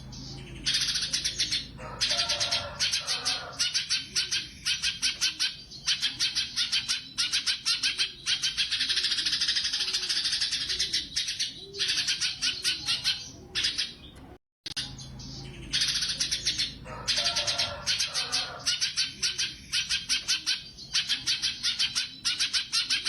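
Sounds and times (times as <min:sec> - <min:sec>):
bulbul singing: 0:00.0 - 0:23.0.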